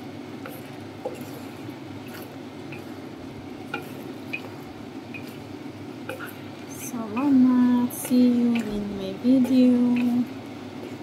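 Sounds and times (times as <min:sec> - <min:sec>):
steady background hum: 0:00.0 - 0:11.0
spatula stirring sauce in wok: 0:00.1 - 0:11.0.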